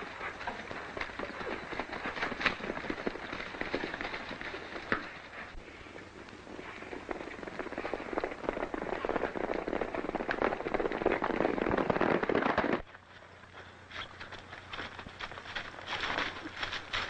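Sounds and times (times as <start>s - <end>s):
horses galloping: 0.0s - 17.0s.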